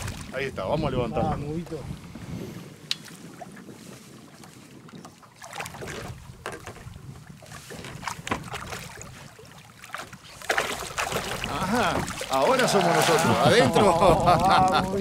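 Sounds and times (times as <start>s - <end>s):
water sloshing against a boat: 0.0s - 15.0s.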